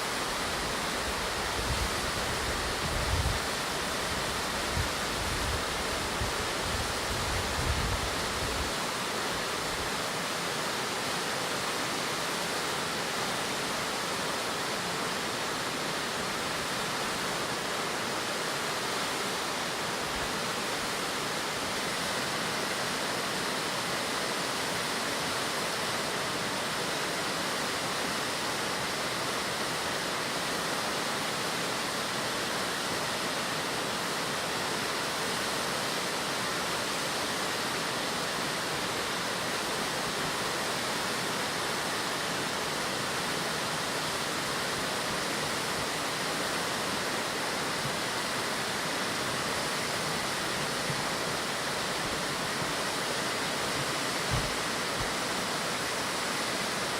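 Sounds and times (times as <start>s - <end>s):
waterfall pouring and splashing: 0.0s - 56.9s.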